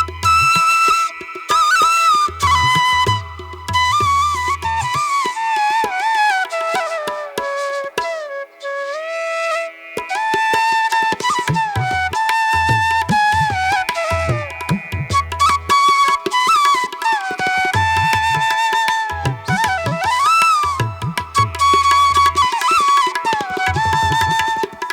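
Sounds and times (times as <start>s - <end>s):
tabla strokes: 0.0s - 8.3s, 9.7s - 24.9s
bamboo flute melody: 0.0s - 24.9s.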